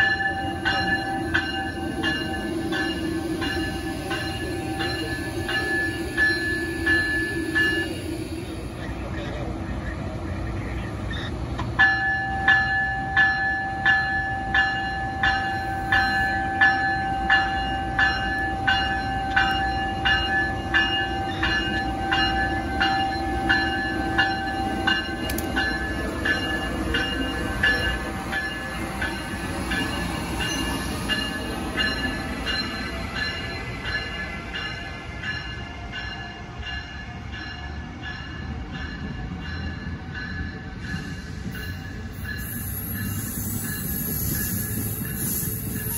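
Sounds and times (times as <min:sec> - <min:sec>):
locomotive bell ringing: 0:00.0 - 0:09.5, 0:11.1 - 0:45.9
train rumbling past: 0:00.0 - 0:45.9.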